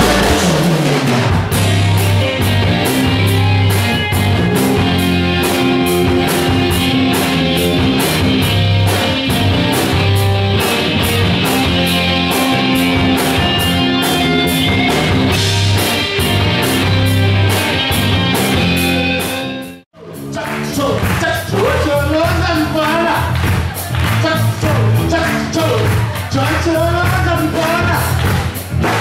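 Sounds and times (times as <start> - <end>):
steady drum beat: 0.0 - 19.5, 20.2 - 29.0
rock guitar: 0.0 - 29.0.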